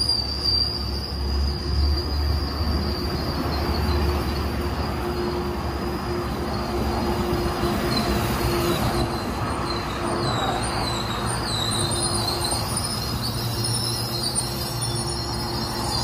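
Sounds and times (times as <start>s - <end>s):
high wavering wheel squeal: 0.0s - 16.0s
train cars rumbling past: 0.0s - 16.0s.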